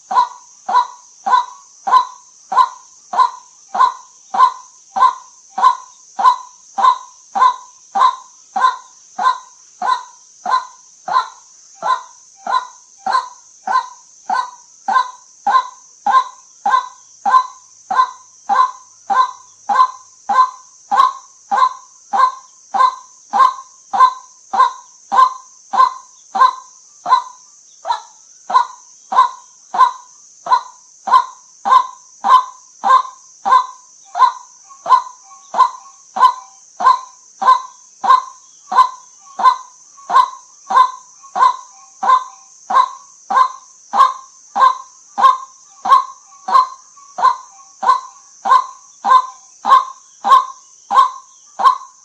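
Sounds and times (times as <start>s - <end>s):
waterhen calling: 0.0s - 51.9s
steady high hiss: 0.0s - 52.0s.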